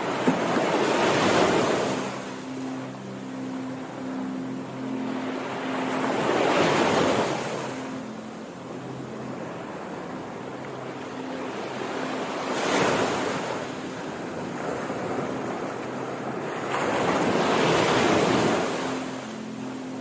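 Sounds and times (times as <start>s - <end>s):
sea waves surf: 0.0s - 20.0s.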